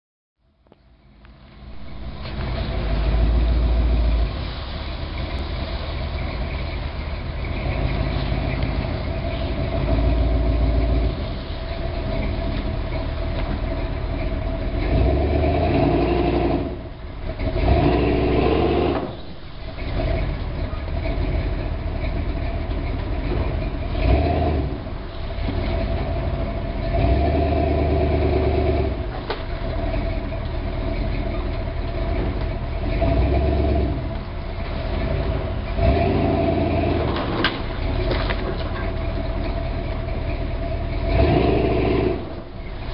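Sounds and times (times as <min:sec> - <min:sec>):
truck engine running under load: 0:00.4 - 0:42.9.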